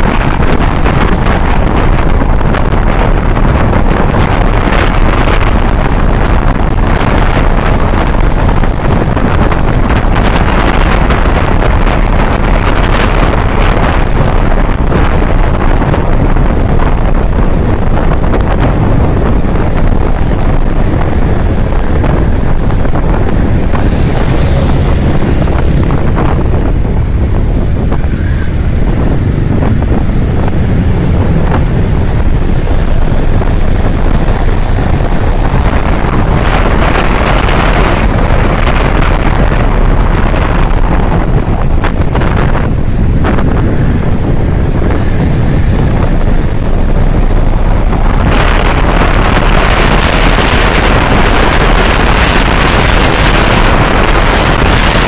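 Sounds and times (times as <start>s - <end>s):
motorcycle engine: 0.0s - 55.0s
road noise: 0.0s - 55.0s
wind rushing over microphone: 0.0s - 55.0s.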